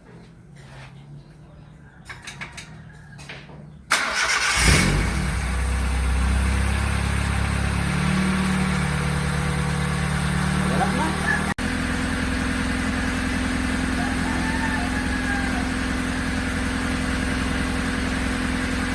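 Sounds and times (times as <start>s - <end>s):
car engine idling: 3.7s - 18.9s.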